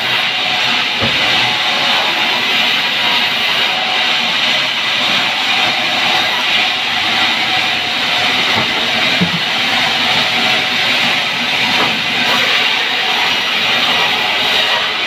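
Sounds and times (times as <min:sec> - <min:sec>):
band sawmill running: 0:00.0 - 0:15.0.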